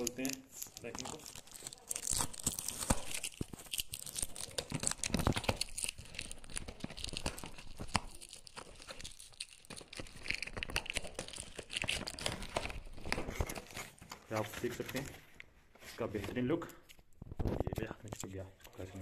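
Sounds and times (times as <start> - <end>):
cardboard packaging rustling: 0.0 - 16.6.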